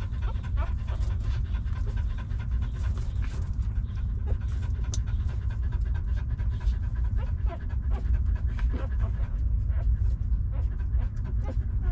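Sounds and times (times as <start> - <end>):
dog panting: 0.0 - 11.9
steady low rumble: 0.0 - 11.9.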